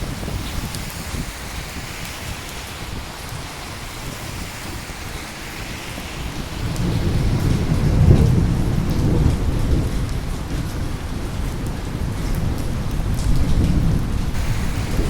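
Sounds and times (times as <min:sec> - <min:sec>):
thunder rolling: 0:00.0 - 0:11.4, 0:13.6 - 0:15.0
steady rain: 0:00.0 - 0:15.0.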